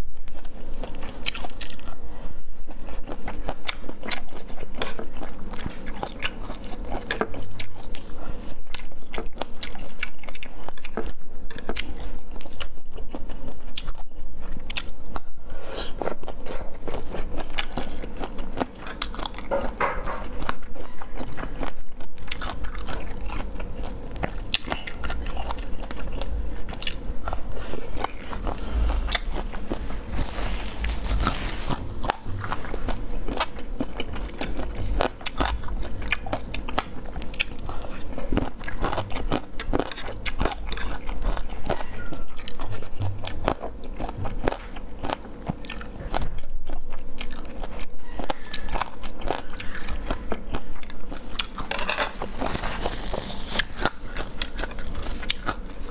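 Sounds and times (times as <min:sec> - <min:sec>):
crunchy bites and chewing: 0:02.8 - 0:55.9.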